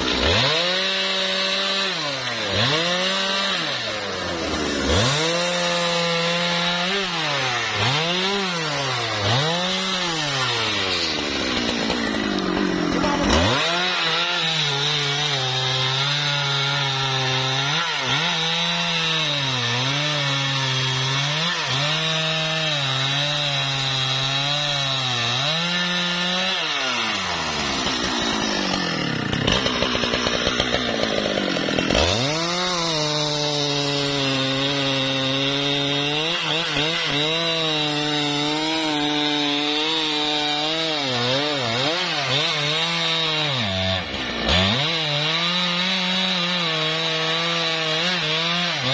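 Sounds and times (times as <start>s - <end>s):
chainsaw cutting into wood: 0.0s - 48.9s.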